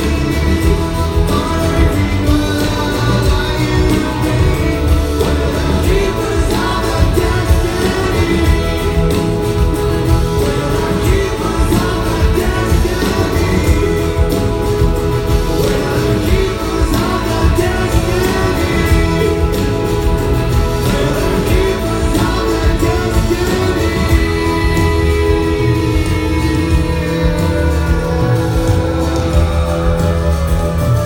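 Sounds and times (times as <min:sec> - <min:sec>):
lead vocalist singing: 0:00.0 - 0:31.0
live rock band: 0:00.0 - 0:31.0.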